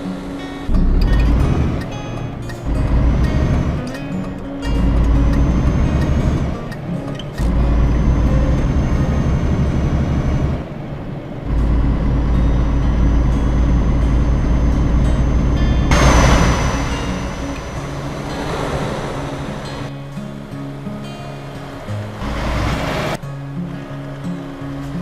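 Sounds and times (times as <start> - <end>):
diesel truck engine rumbling: 0.0 - 20.5, 21.7 - 23.2.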